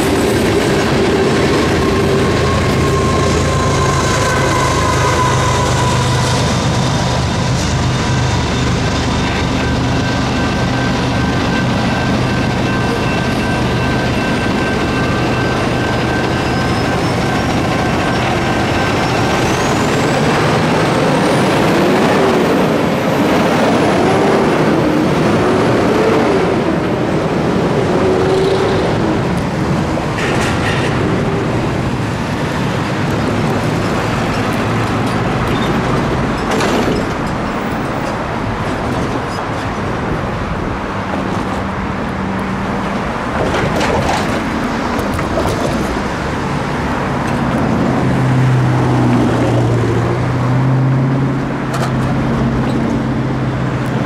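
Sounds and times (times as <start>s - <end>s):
cars and trucks passing: 0.0s - 54.0s.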